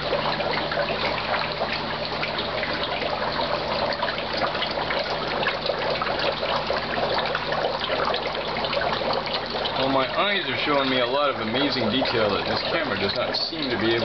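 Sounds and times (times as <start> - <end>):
dry ice bubbling in water: 0.0 - 14.0.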